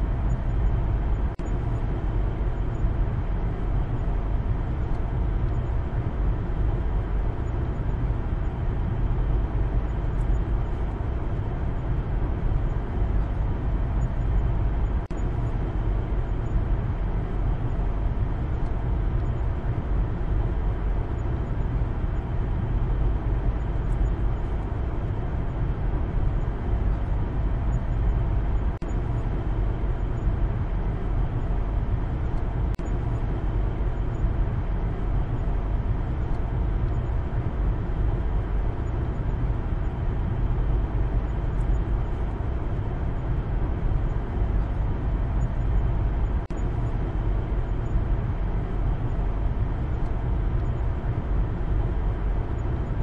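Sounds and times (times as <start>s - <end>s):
car engine and road noise rumble: 0.0s - 53.0s.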